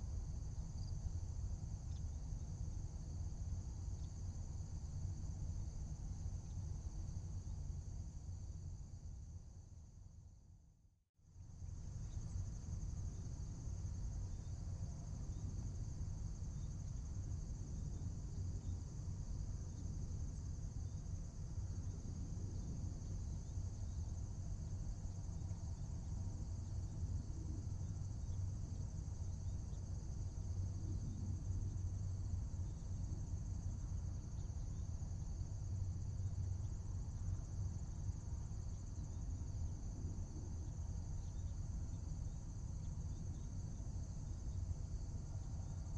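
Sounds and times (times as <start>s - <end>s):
crickets chirping: 0.0s - 10.2s, 11.5s - 45.9s.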